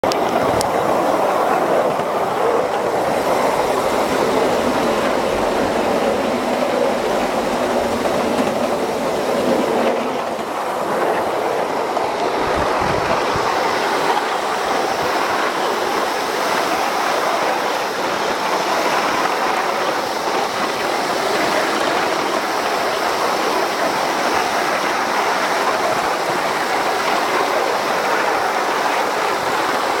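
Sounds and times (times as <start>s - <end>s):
wheels clattering on rails: 0.0s - 30.0s.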